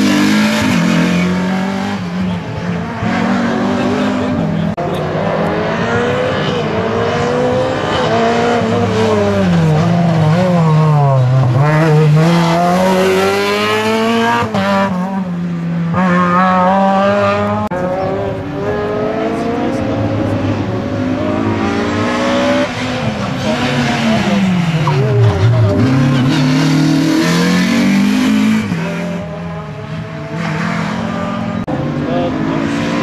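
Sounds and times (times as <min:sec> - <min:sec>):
car engines revving hard: 0:00.0 - 0:33.0.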